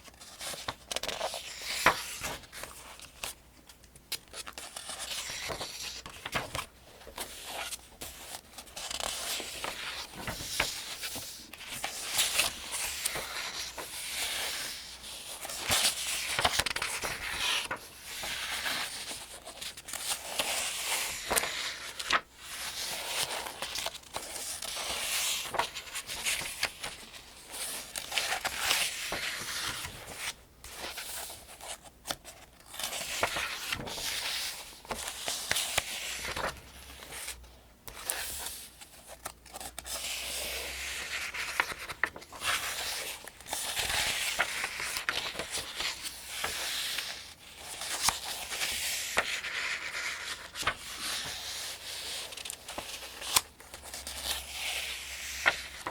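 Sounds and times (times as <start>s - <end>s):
pages turning: 0.0s - 55.9s.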